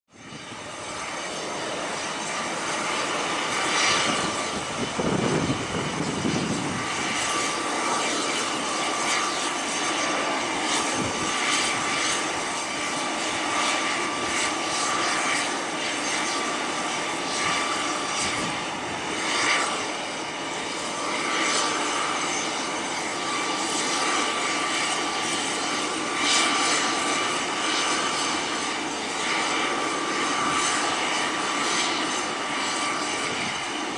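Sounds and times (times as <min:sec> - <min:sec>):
aircraft engine drone: 0:00.1 - 0:33.9
high engine whine: 0:00.2 - 0:33.9.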